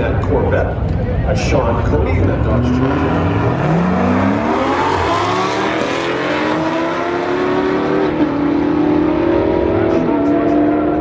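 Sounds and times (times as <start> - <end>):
cars accelerating hard: 2.0 - 11.0.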